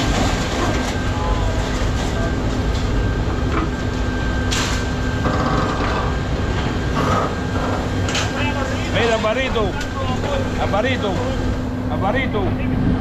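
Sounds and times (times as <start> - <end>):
diesel engine rumbling: 0.0 - 13.0
hydraulic whine: 0.0 - 13.0.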